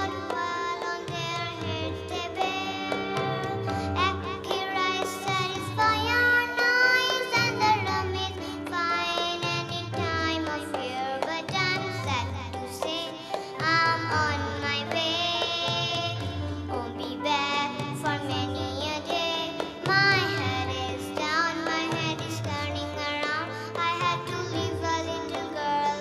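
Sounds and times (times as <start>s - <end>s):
girl singing into microphone: 0.0s - 26.0s
musical accompaniment: 0.0s - 26.0s.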